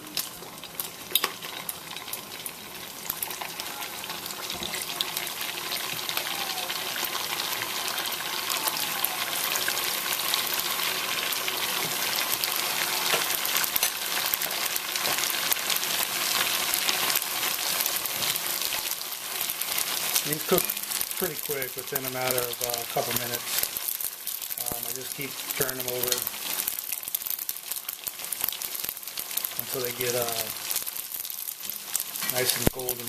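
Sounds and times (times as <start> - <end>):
deep-frying sizzle and pops: 0.0 - 33.0.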